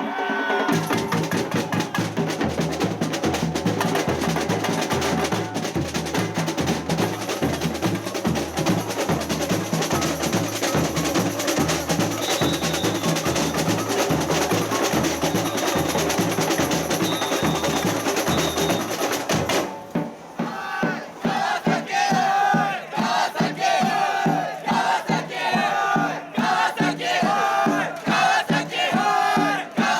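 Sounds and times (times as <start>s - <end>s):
samba percussion ensemble: 0.0s - 29.9s.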